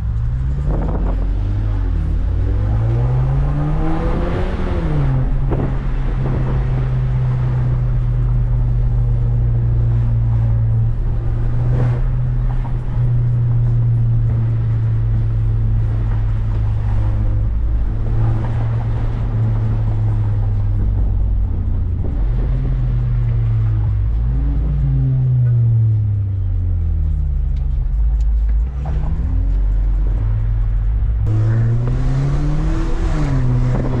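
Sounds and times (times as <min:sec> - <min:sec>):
car exhaust revving and droning: 0:00.0 - 0:34.0.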